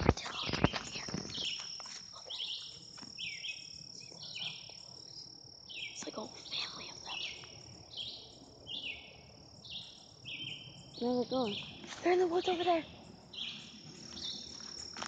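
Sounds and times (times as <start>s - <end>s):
high-pitched insect drone: 0.0s - 15.0s
insect chirping calls: 0.0s - 15.0s.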